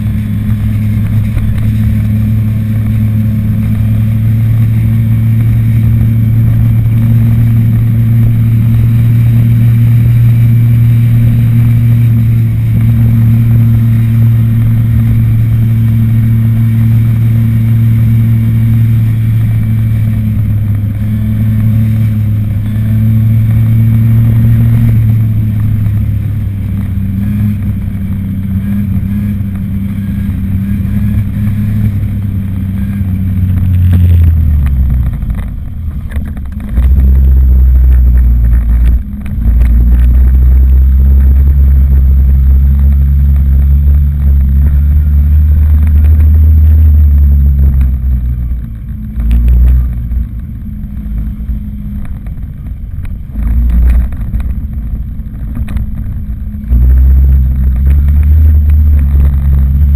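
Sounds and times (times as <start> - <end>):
moped engine humming: 0.0 - 59.9.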